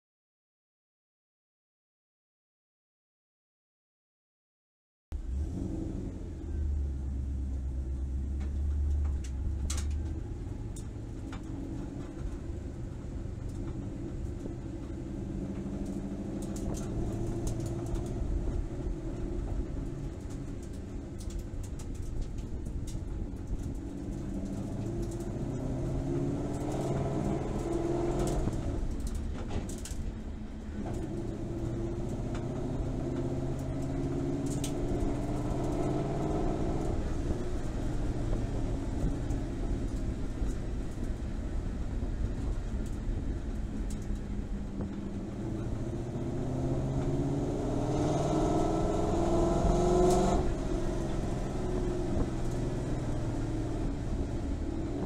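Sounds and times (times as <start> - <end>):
car engine idling and pulling away: 5.1 - 55.0.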